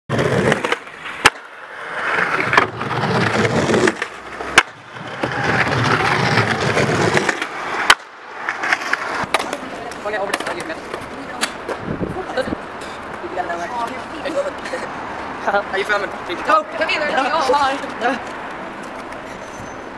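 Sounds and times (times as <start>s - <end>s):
skateboard clacking on ground: 0.1s - 11.9s, 12.8s - 14.8s, 16.8s - 19.4s
skateboard wheels rolling on stone: 0.1s - 14.6s, 15.8s - 19.9s.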